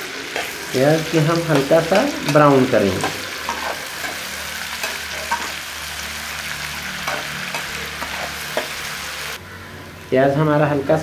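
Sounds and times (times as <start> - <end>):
metal spatula scraping a pan: 0.0 - 9.4
onions sizzling in a frying pan: 0.0 - 10.1.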